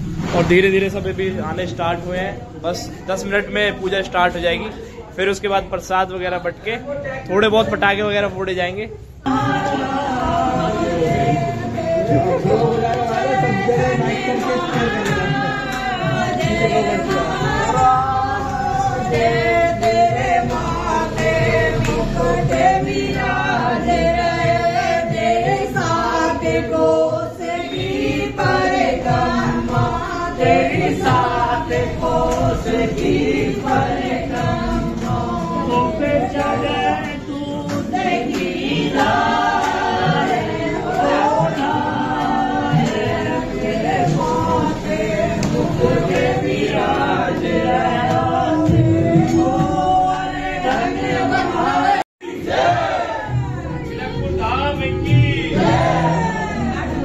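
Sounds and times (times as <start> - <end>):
group singing devotional song: 0.0 - 57.0.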